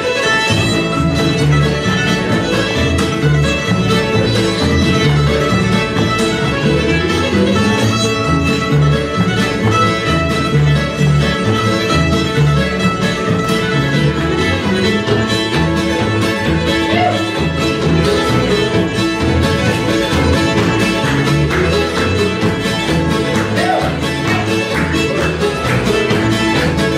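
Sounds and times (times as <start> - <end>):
acoustic guitar: 0.0 - 26.9
fiddle: 0.0 - 26.9
mandolin: 0.0 - 26.9
upright bass: 0.0 - 26.9.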